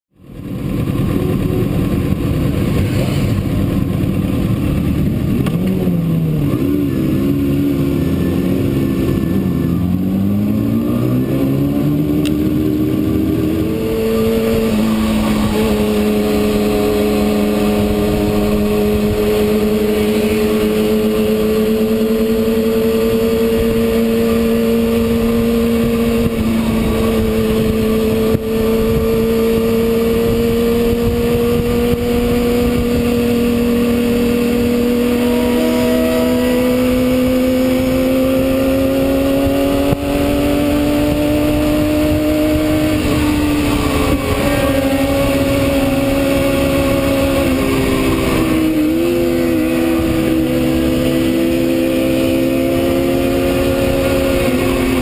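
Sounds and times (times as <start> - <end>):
wind and road noise: 0.1 - 55.0
motorcycle engine revving: 0.2 - 55.0.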